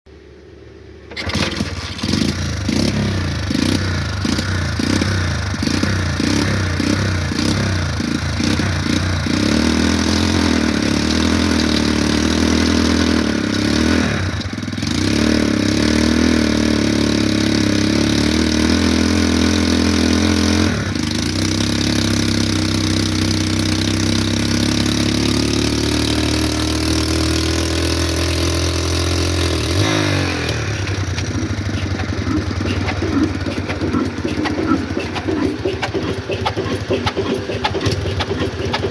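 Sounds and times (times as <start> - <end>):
diesel engine beating: 1.0 - 15.0, 17.3 - 38.9.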